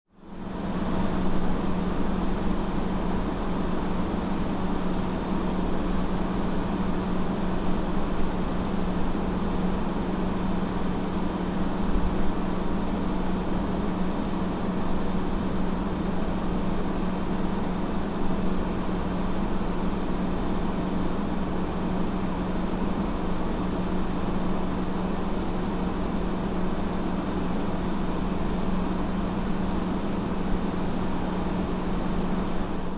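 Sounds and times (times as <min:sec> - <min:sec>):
motor humming steadily: 0:00.2 - 0:32.9.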